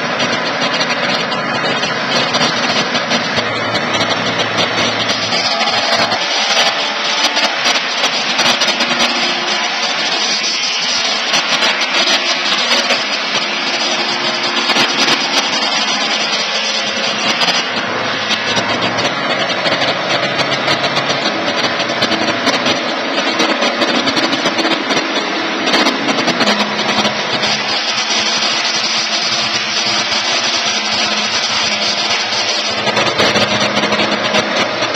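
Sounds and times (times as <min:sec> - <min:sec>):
electric sawmill running: 0:00.0 - 0:34.9.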